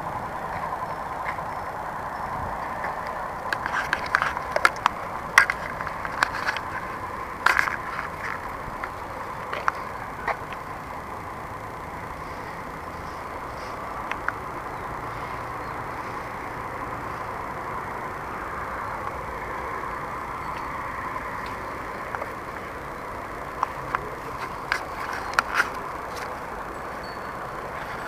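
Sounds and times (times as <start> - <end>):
distant traffic hum: 0.0 - 28.0.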